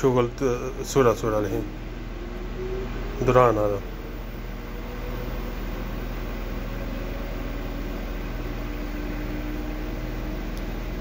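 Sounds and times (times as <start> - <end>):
washer-dryer mechanical hum: 0.0 - 11.0.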